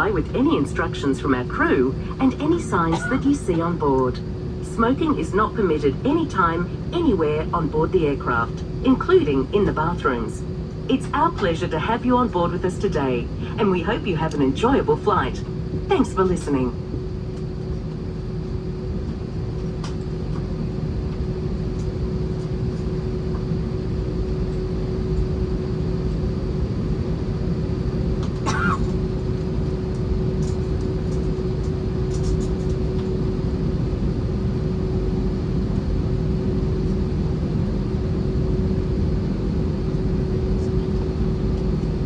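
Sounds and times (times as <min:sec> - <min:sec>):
aircraft cabin engine rumble: 0:00.0 - 0:42.0
constant hum tone: 0:00.0 - 0:42.0.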